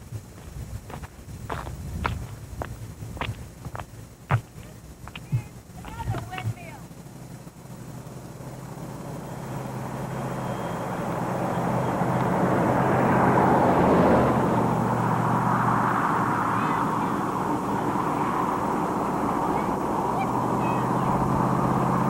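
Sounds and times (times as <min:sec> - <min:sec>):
passing vehicle engine hum: 0:00.0 - 0:22.0.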